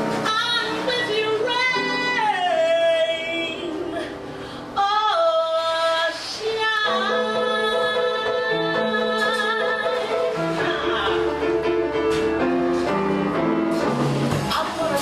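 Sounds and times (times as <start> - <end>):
live jazz ballad: 0.0 - 15.0.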